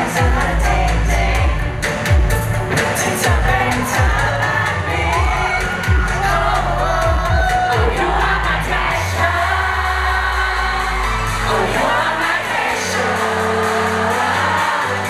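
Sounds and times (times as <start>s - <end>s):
bass line: 0.0s - 13.2s
men singing pop song: 0.0s - 15.0s.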